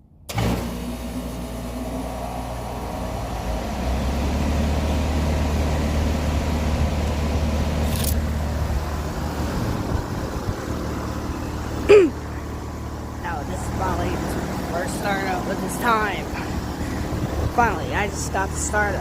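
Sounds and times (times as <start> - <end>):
compressor hum: 0.0 - 19.0
fan rushing: 0.0 - 19.0.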